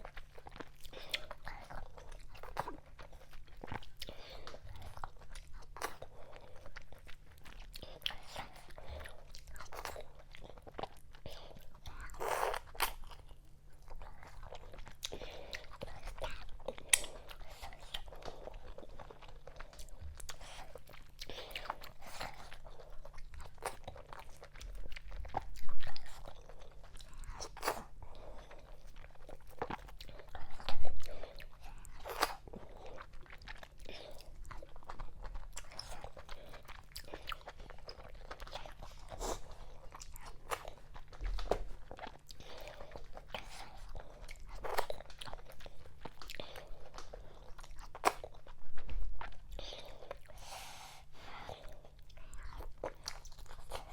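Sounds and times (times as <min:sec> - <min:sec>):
wet chewing and smacking: 0:00.0 - 0:53.9.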